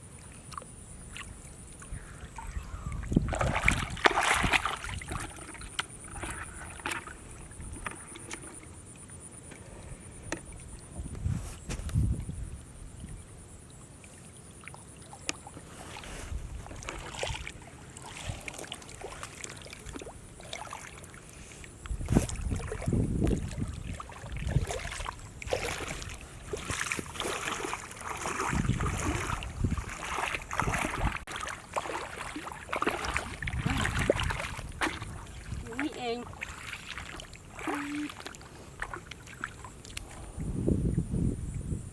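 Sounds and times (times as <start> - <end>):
water sloshing and splashing: 0.0 - 12.3, 12.9 - 41.0.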